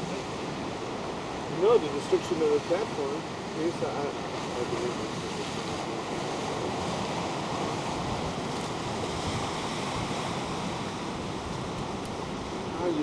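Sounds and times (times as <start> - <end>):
ocean surf rushing: 0.0 - 13.0
wind: 0.0 - 13.0.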